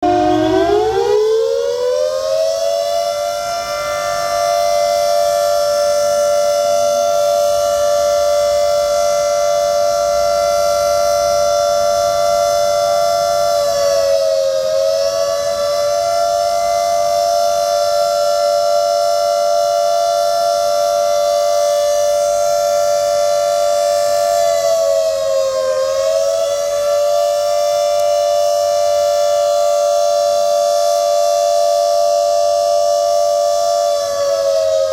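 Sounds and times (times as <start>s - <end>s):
civil defence siren wailing: 0.0s - 34.9s.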